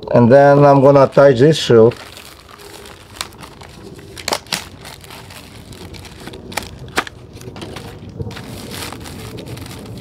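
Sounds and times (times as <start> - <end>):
plastic bag crinkling: 0.6 - 10.0.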